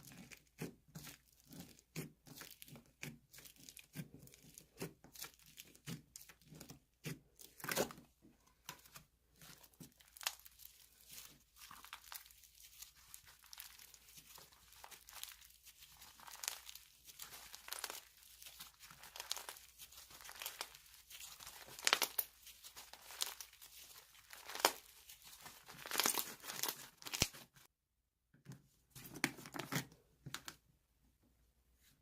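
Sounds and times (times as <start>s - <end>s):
slime squished crackling: 0.1s - 27.4s.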